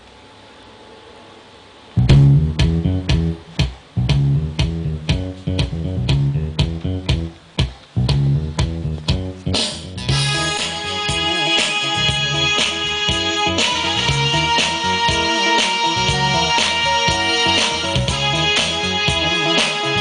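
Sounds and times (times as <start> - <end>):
funk music with heavy bass: 2.0 - 20.0.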